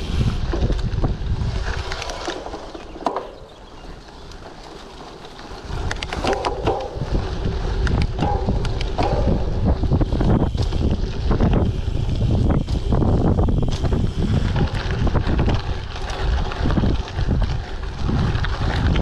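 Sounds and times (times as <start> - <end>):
wind buffeting microphone: 0.0 - 4.6, 5.4 - 19.0
bike rattling and knocking: 0.0 - 19.0
tyre rumble: 0.0 - 19.0.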